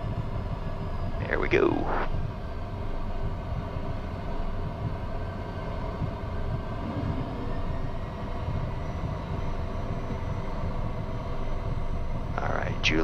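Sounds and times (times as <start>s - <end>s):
high engine whine: 0.0s - 13.0s
jet engines rumbling at low power: 0.0s - 13.0s.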